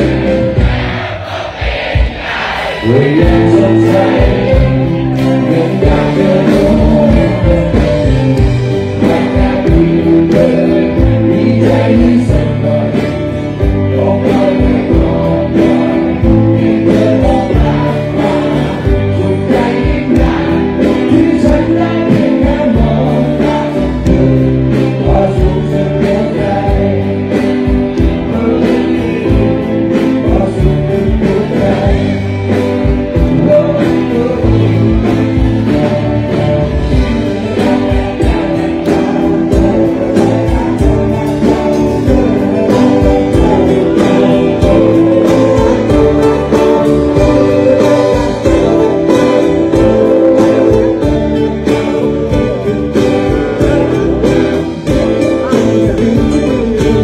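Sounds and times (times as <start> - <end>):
crowd singing along: 0.0 - 57.0
live rock band: 0.0 - 57.0
person singing: 2.7 - 57.0.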